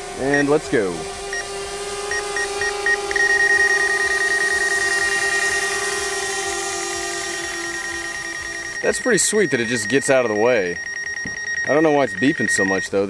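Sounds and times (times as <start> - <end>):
drone propellers whining: 0.0 - 13.0
high warning beeps: 2.1 - 13.0.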